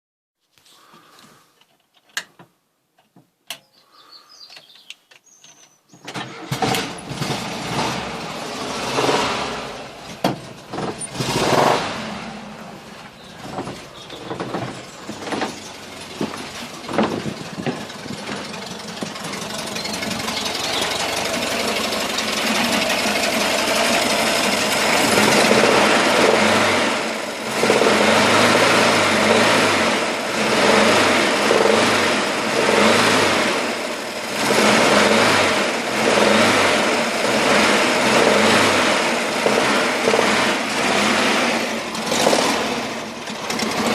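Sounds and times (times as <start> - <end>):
engine starting and running: 6.0 - 43.9.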